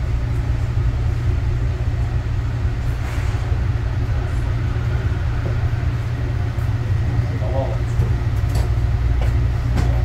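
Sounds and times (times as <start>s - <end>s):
train interior rumble: 0.0s - 10.0s.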